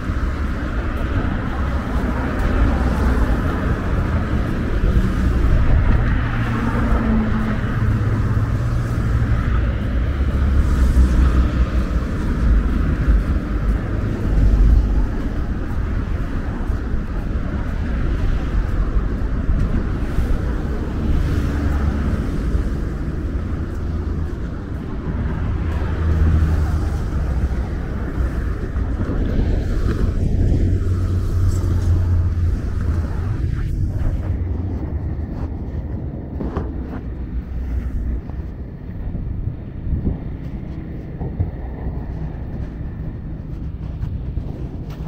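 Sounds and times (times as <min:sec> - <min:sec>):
car traffic passing: 0:00.0 - 0:45.0.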